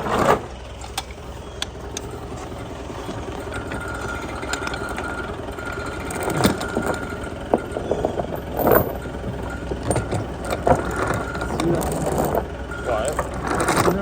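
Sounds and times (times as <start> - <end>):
engine running with whine: 0.0 - 14.0
machine knocks and clanks: 1.9 - 14.0.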